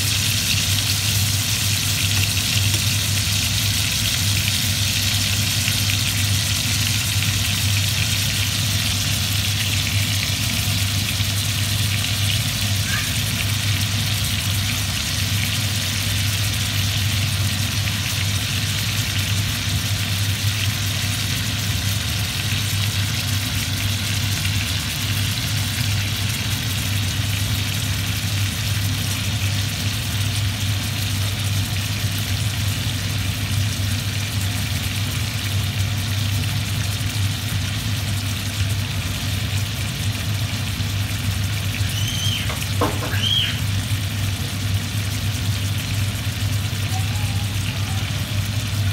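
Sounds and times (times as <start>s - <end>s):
steaks sizzling in skillet: 0.0s - 48.9s.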